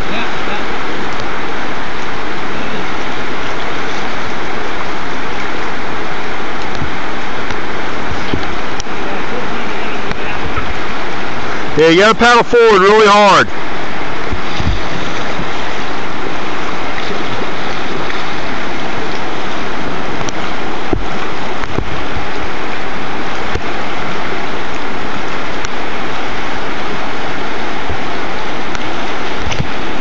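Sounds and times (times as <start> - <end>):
whitewater rapids rushing: 0.0 - 30.0.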